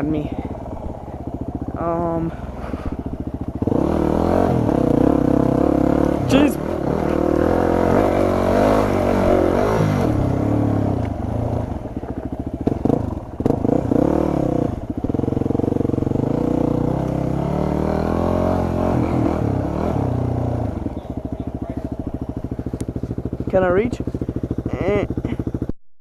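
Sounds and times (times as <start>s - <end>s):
motorcycle engine revving: 0.0s - 25.8s.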